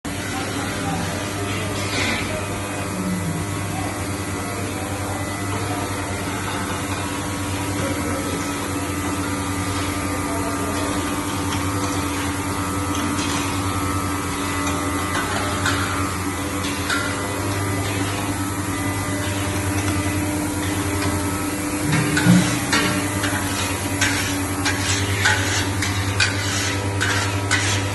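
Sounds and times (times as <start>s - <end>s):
machinery humming: 0.1s - 27.9s.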